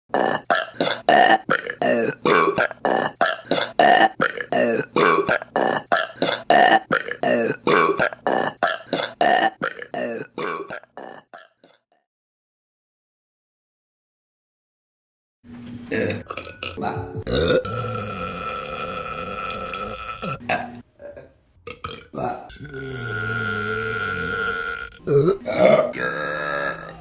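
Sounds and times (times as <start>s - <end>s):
woman burping: 0.1s - 11.8s, 16.2s - 27.0s.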